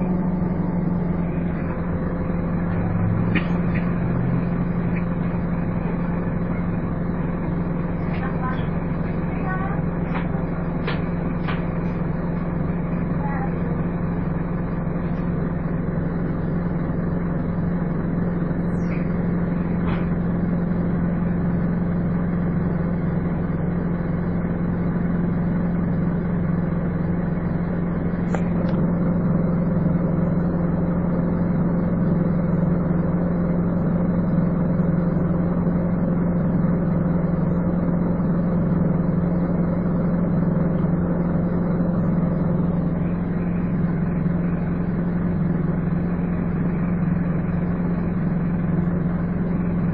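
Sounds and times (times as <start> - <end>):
bus engine droning: 0.0 - 49.9.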